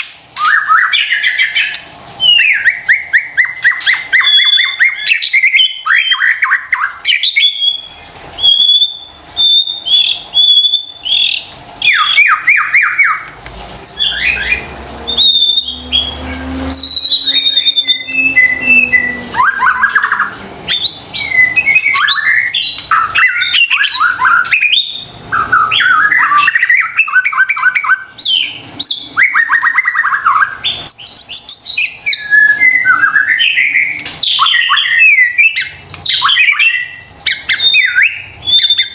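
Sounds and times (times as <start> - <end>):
shama bird singing: 0.4 - 38.9.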